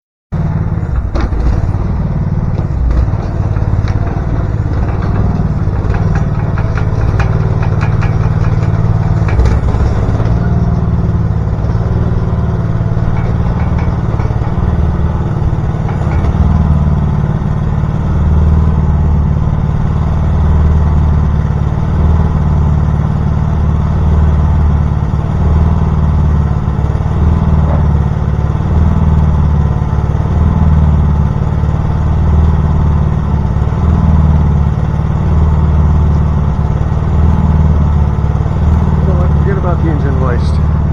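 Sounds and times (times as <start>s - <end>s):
clicks and clatter: 0.4s - 20.1s, 25.5s - 31.4s, 33.6s - 40.9s
small gas engine running: 0.4s - 40.9s.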